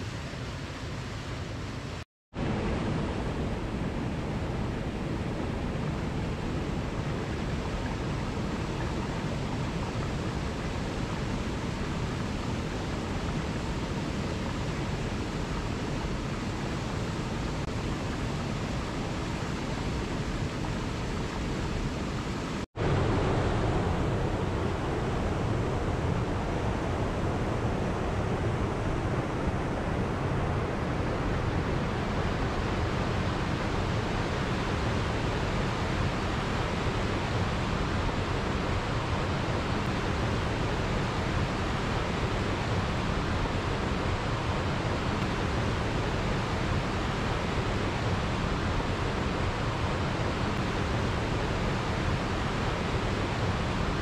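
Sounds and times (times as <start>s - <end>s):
stream rushing over rocks: 5.3s - 54.0s.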